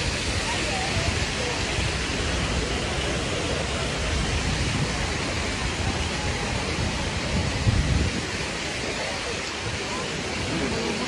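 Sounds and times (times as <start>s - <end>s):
fountain water rushing: 0.0s - 11.0s.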